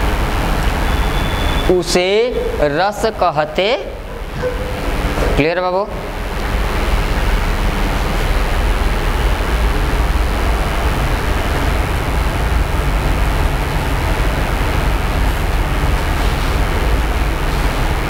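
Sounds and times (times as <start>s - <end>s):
loud rushing noise: 0.0s - 18.0s
low rumble: 2.1s - 17.8s.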